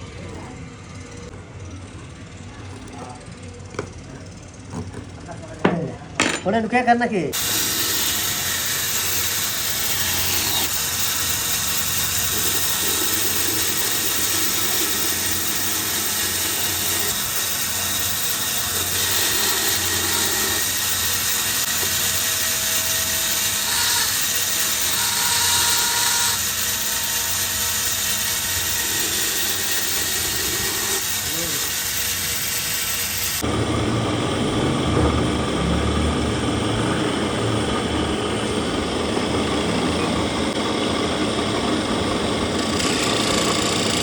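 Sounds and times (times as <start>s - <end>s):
electric power tool running: 7.3s - 44.0s.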